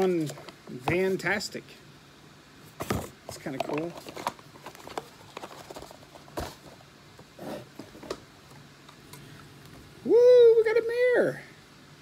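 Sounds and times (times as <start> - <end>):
electric fan hum: 0.0 - 12.0.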